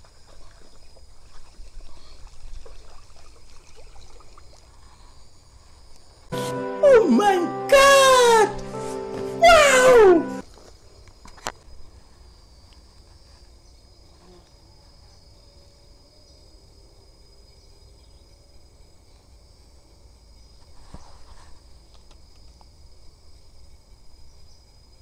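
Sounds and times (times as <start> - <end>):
insects chirring: 0.0 - 6.4, 10.4 - 25.0.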